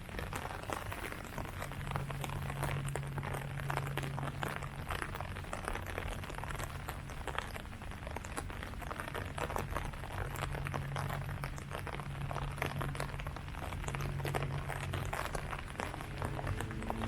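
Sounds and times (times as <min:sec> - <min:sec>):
low steady hum: 0:00.0 - 0:17.0
rain pattering on leaves: 0:00.0 - 0:17.0.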